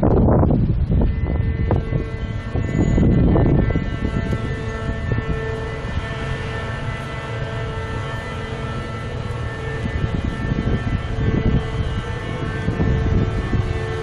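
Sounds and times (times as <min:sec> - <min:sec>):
bridge machinery humming: 0:00.0 - 0:14.0.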